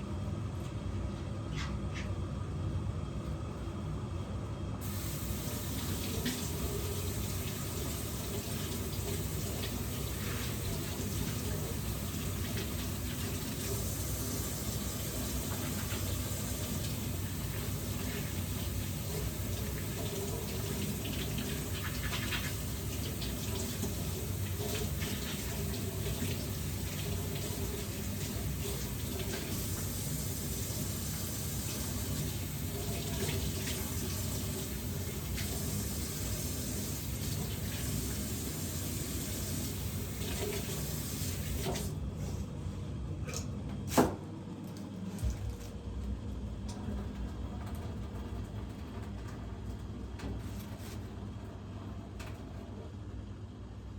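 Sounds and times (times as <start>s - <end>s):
water running: 4.8s - 42.1s, 44.7s - 51.1s.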